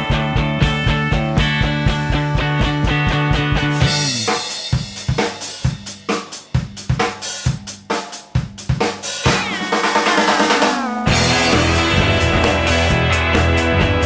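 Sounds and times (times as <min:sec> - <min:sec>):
rock band playing: 0:00.0 - 0:07.6, 0:08.6 - 0:14.0
drum kit playing: 0:00.0 - 0:14.0.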